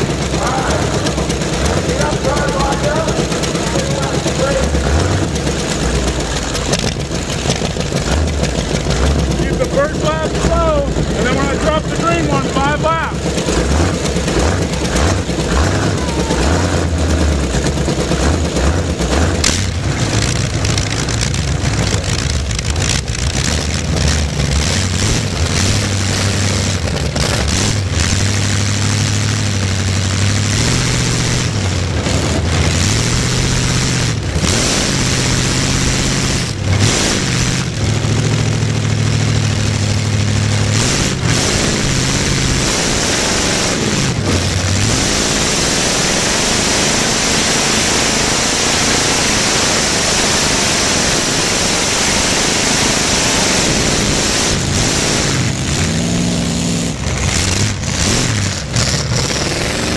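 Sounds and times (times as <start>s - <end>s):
car engine revving loudly: 0.0s - 59.9s.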